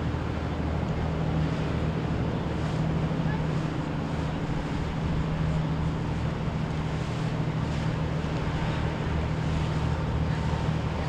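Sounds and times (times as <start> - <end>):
boat engine droning: 0.0 - 11.0
water noise: 0.0 - 11.0.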